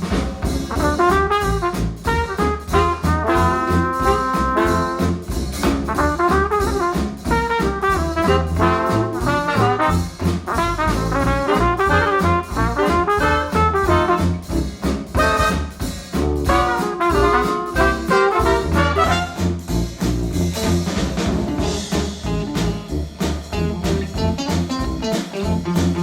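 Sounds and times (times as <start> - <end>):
upbeat jazz with brass: 0.0 - 26.0.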